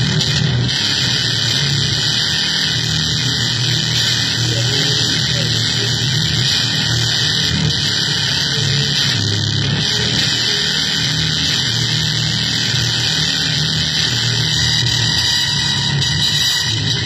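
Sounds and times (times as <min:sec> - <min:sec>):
harsh noise music: 0:00.0 - 0:17.0.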